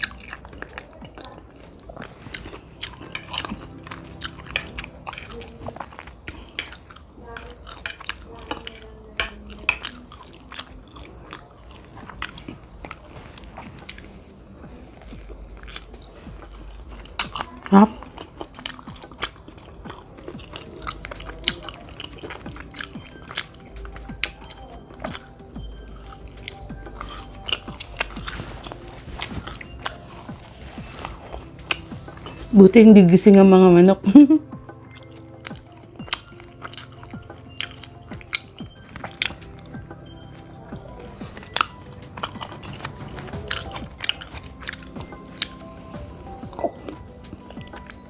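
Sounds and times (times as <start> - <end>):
chewing and mouth smacks: 0.0 - 33.3, 34.2 - 48.0.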